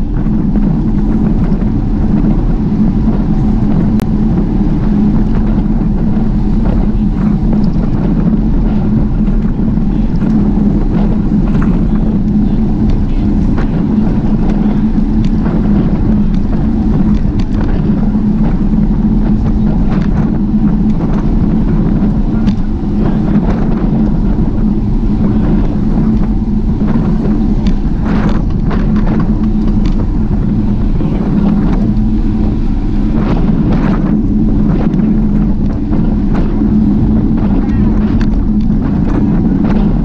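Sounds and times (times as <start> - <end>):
low hum: 0.0 - 40.0
wind rush while cycling: 0.0 - 40.0.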